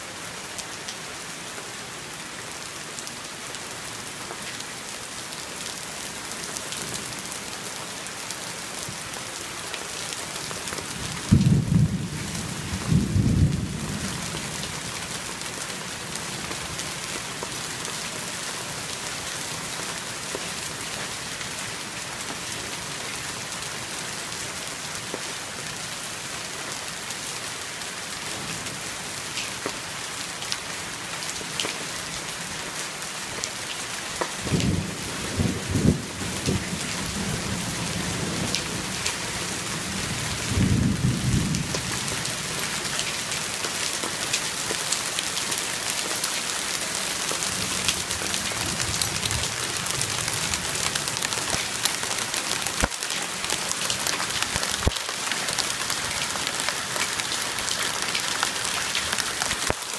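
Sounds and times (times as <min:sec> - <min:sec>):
heavy rain on trees and deck: 0:00.0 - 0:59.9.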